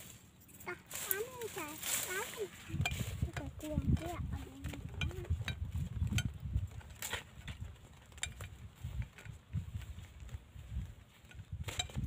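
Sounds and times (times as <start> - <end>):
low uneven rumble: 0.0 - 11.2
footsteps on dry grass: 0.0 - 12.0.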